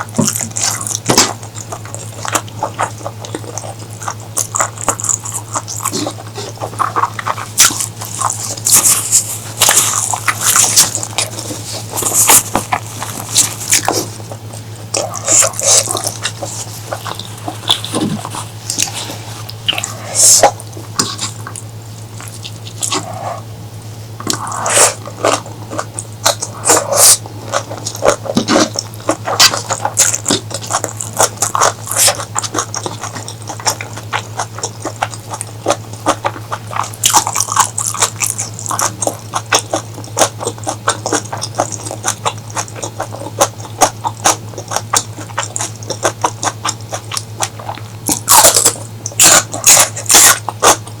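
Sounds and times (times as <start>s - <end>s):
wet chewing and mouth smacks: 0.0s - 23.5s, 24.2s - 51.0s
steady low hum: 0.0s - 51.0s.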